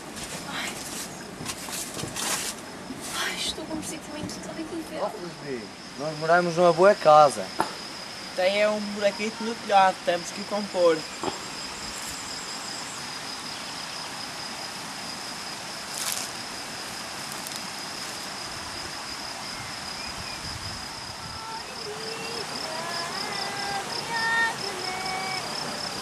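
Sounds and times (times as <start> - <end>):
cricket trilling: 0.0 - 26.0
outdoor background hiss: 0.0 - 26.0.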